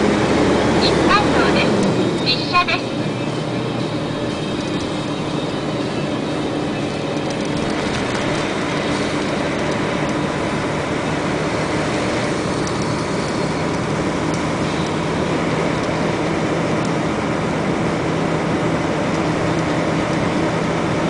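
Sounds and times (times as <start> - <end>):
engine hum inside vehicle: 0.0 - 21.0
tyre and road noise: 0.0 - 21.0.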